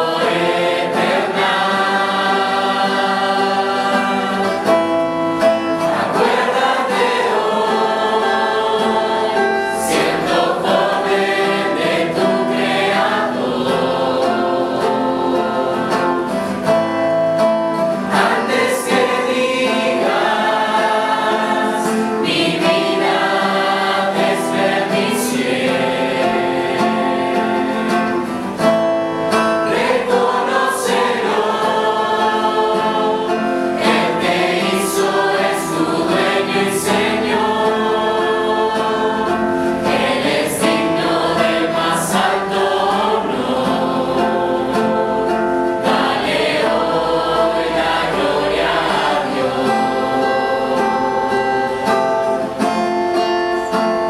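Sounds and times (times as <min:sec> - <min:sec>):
guitar: 0:00.0 - 0:54.0
youth choir singing in unison: 0:00.0 - 0:54.0.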